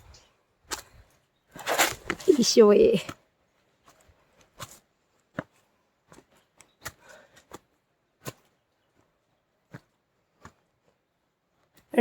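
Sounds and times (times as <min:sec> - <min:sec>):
footsteps on a trail: 0:00.0 - 0:11.1.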